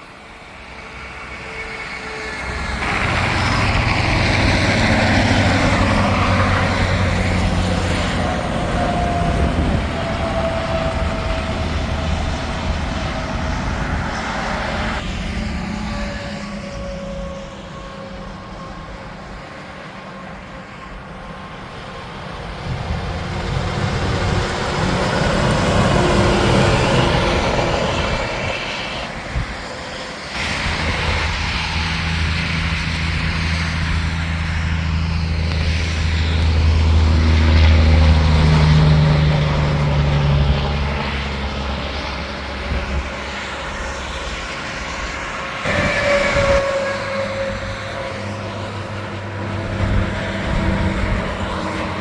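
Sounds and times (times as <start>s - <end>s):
low engine drone: 0.0s - 52.0s
trucks passing on highway: 0.0s - 52.0s.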